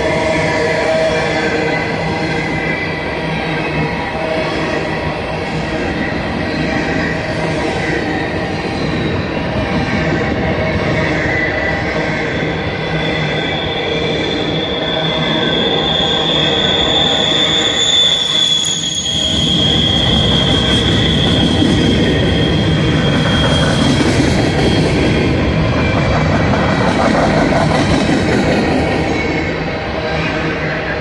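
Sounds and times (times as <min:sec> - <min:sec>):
high wheel squeal: 0:00.0 - 0:30.9
train wheels rumbling on rails: 0:00.0 - 0:31.0.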